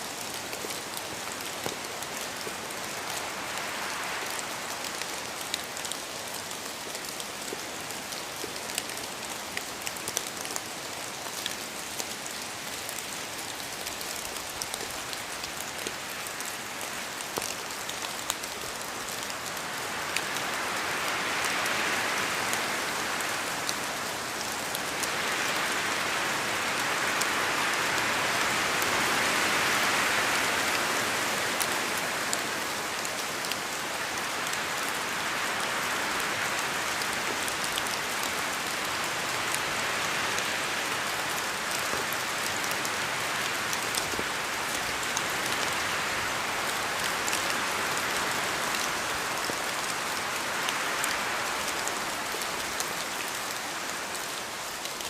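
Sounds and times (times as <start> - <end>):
rain falling in a forest: 0.0 - 55.0
wind gusting through trees: 0.0 - 55.0.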